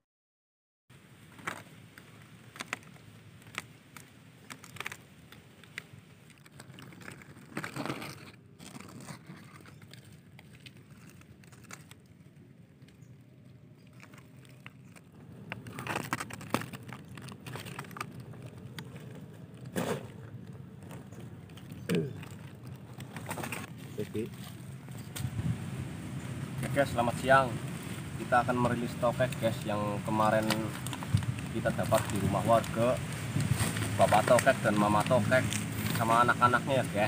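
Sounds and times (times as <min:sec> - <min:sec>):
plastic bag crinkling: 0:01.4 - 0:26.0, 0:27.6 - 0:36.2.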